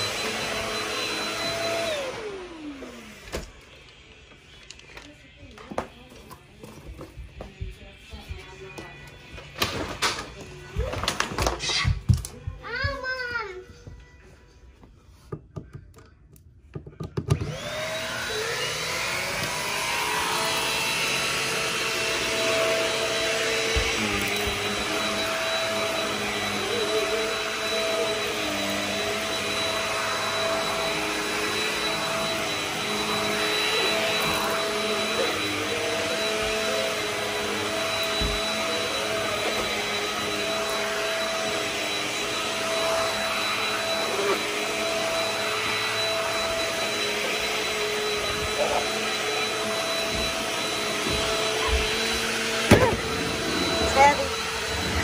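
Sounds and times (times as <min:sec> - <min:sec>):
vacuum cleaner on carpet: 0:00.0 - 0:11.5, 0:17.3 - 0:55.0.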